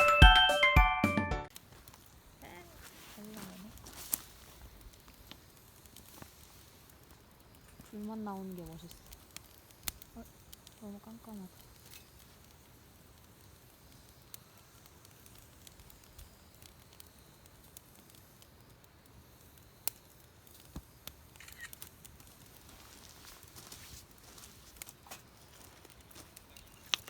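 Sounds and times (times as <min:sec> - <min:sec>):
campfire logs crackling: 0:01.5 - 0:27.0
sharp pops of fire: 0:01.5 - 0:27.0.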